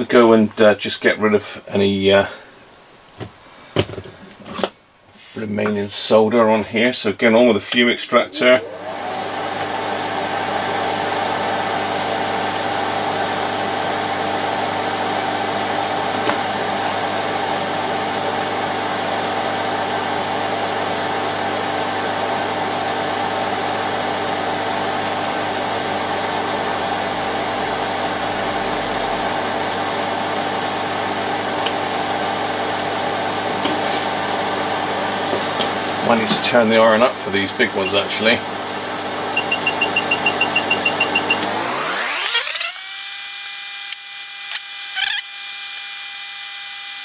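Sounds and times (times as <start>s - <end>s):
fume extractor fan whirring: 0.0s - 43.0s.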